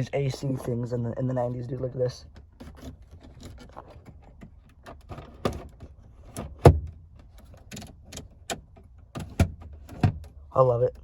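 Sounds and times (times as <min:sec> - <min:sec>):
plastic dashboard knobs clicking: 0:02.2 - 0:11.0.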